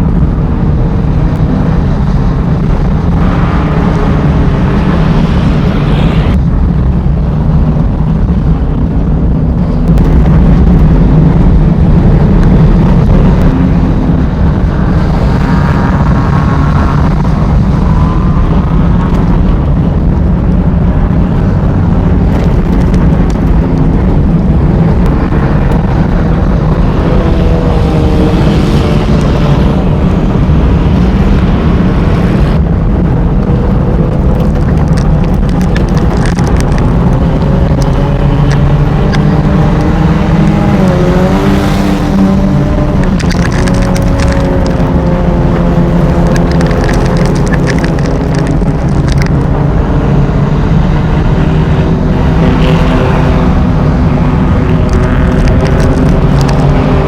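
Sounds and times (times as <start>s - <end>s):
race car engines running: 0.0s - 57.0s.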